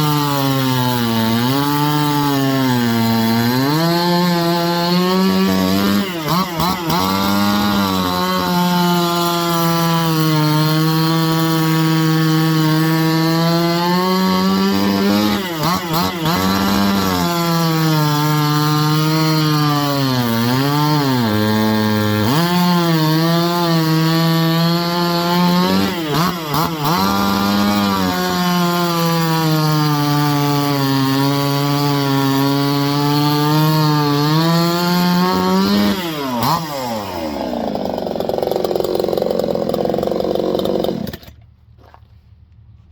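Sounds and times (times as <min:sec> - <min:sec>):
chainsaw running at high revs: 0:00.0 - 0:41.4.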